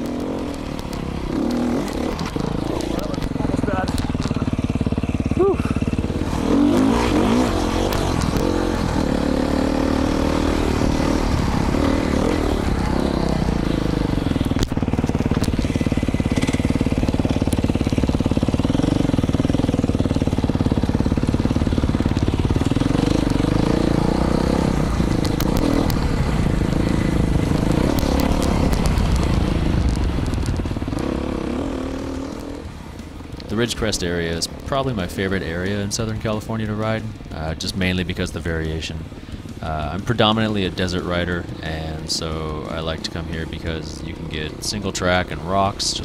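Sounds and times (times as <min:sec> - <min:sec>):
dirt bike engine revving: 0:00.0 - 0:36.8.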